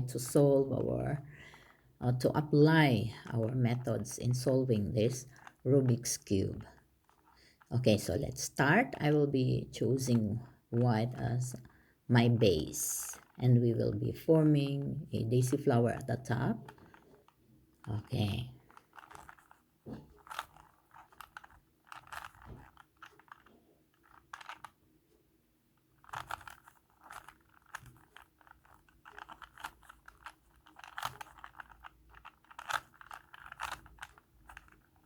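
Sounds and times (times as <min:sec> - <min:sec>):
puzzle cube clicking: 0:03.1 - 0:09.2, 0:10.0 - 0:24.8, 0:25.8 - 0:35.0.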